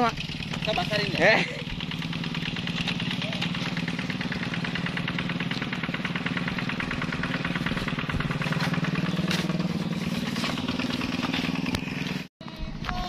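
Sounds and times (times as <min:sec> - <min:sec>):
fast regular engine ticking: 0:00.0 - 0:12.3
motorcycle engine running: 0:00.0 - 0:13.0.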